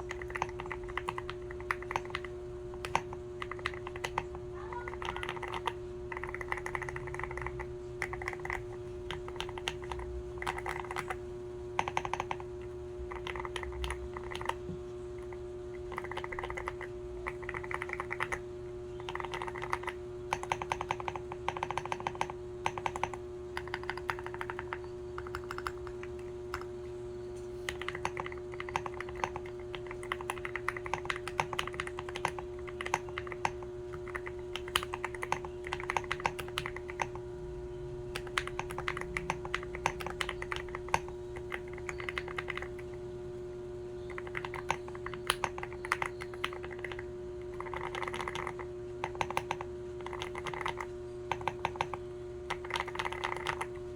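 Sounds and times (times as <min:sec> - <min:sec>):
mechanical keyboard typing: 0:00.0 - 0:11.2, 0:11.8 - 0:18.4, 0:19.0 - 0:26.8, 0:27.6 - 0:37.3, 0:38.0 - 0:43.1, 0:44.0 - 0:53.9
faint steady hum: 0:00.0 - 0:53.9.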